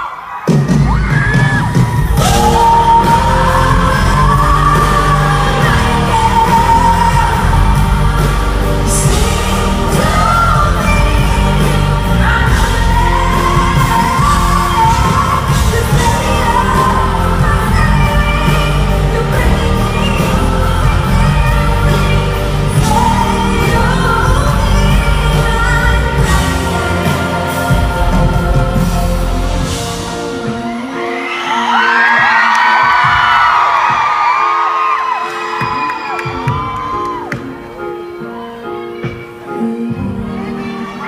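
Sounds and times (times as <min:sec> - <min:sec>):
band accompaniment: 0:00.0 - 0:41.0
woman singing pop ballad: 0:01.1 - 0:33.6, 0:39.0 - 0:41.0.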